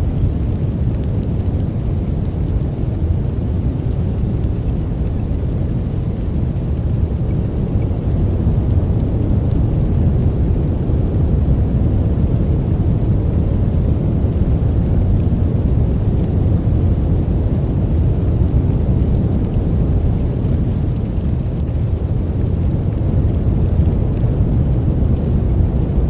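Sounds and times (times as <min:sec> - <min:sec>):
deep white noise: 0:00.0 - 0:26.0.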